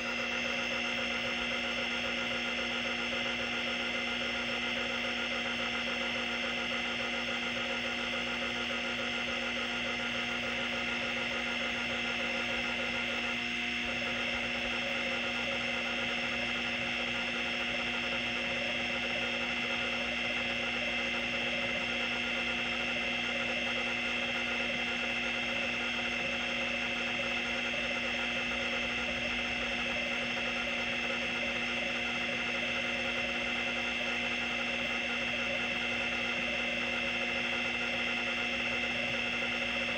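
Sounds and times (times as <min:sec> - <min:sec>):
hard drive platter hum and whine: 0:00.0 - 0:39.9.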